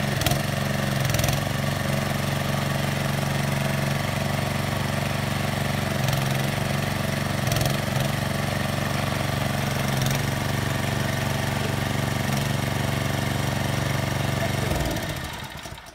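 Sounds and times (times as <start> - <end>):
small petrol engine running: 0.0 - 15.9.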